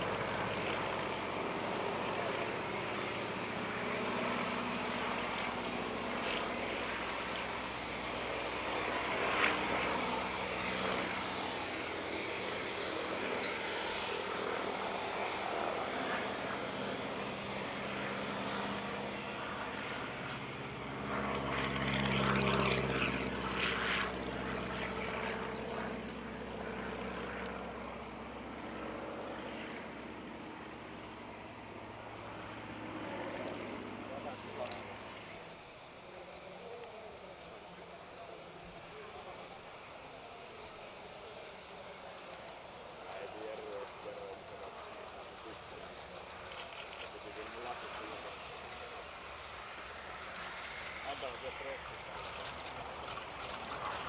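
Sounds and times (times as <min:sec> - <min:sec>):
biplane radial engine: 0:00.0 - 0:54.0.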